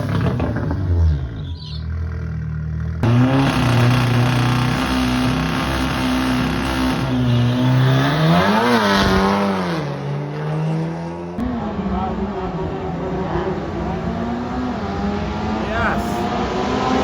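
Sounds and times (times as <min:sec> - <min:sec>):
drag racing car engine revving: 0:02.9 - 0:17.0.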